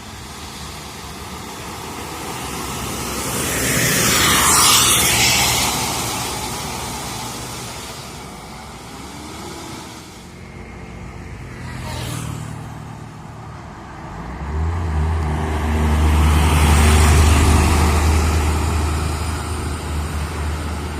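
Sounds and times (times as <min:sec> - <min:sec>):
diesel bus engine passing by: 0:00.0 - 0:20.9
whoosh of passing vehicle: 0:00.0 - 0:20.9.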